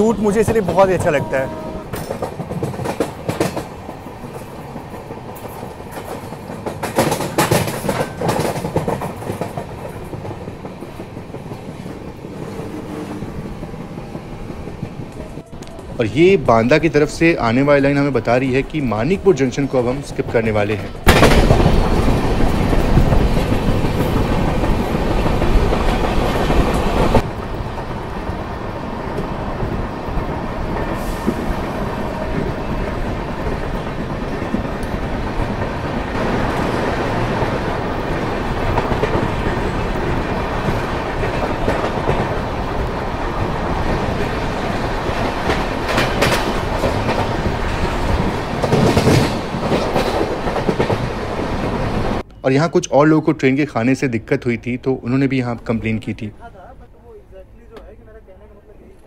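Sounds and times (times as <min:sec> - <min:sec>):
train wheels clattering on rails: 0:00.0 - 0:52.3.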